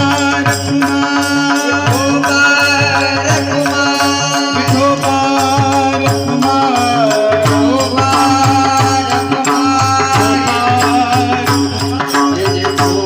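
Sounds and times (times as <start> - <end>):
hand drum rhythm: 0.0 - 13.0.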